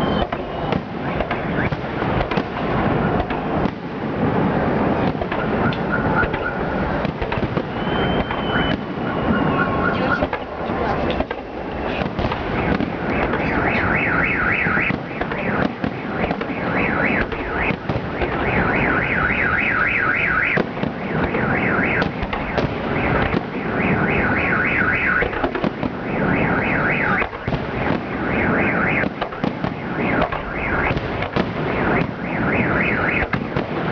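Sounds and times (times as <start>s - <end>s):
car alarm siren warbling: 0.0s - 2.1s, 4.8s - 10.4s, 11.3s - 33.9s
fireworks bangs: 0.0s - 33.9s
steady background noise: 0.0s - 33.9s.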